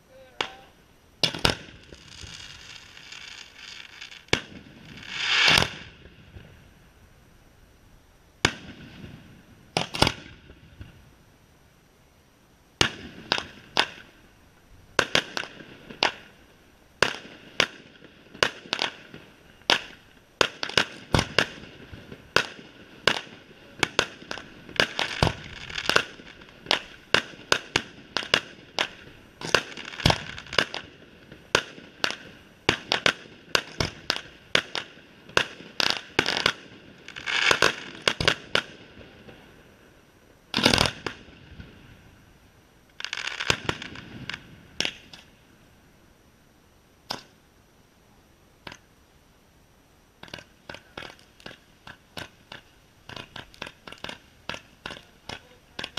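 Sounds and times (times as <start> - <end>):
fireworks bangs: 0.2 - 6.7, 8.4 - 11.0, 12.8 - 14.2, 14.9 - 42.3, 43.0 - 45.5, 50.2 - 55.9.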